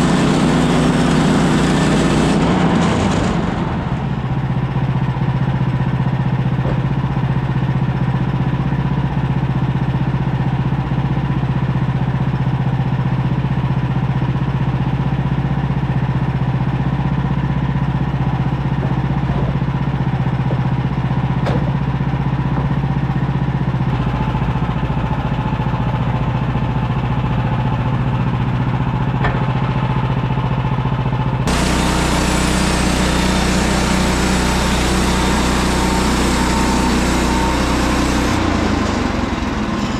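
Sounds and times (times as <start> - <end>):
sawmill gas engine running: 0.0 - 39.9.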